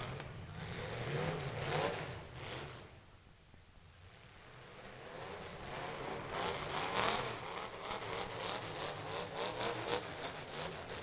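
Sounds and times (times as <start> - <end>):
car engine revving hard: 0.0 - 2.9, 4.4 - 11.0.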